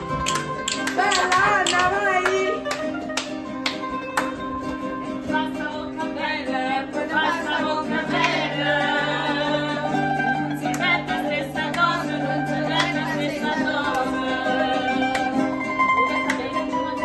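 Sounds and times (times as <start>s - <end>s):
mandolin and acoustic guitar: 0.0s - 17.0s
woman singing: 0.8s - 2.8s, 5.2s - 17.0s.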